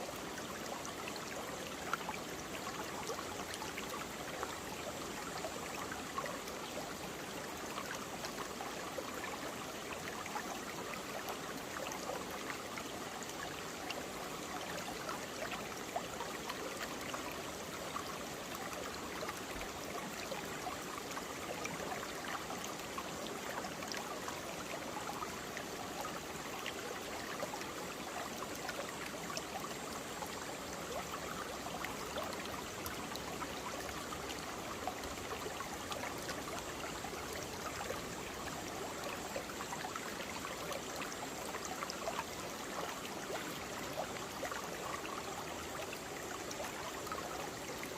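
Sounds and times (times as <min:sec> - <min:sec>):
stream flowing over rocks: 0:00.0 - 0:47.9.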